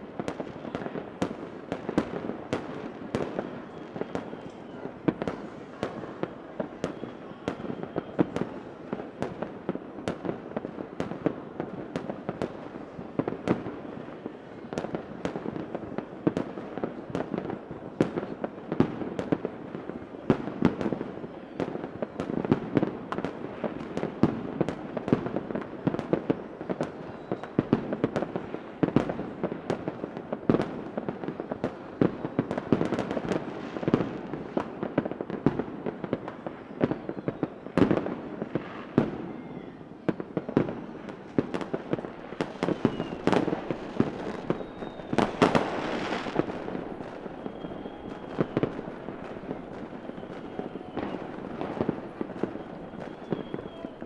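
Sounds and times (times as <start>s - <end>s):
fireworks bangs and pops: 0.0s - 54.0s
fireworks crackling: 0.0s - 54.0s.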